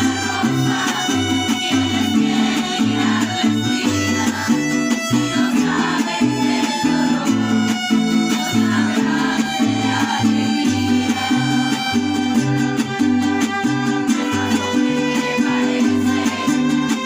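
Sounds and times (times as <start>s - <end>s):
mariachi band playing: 0.0s - 17.0s.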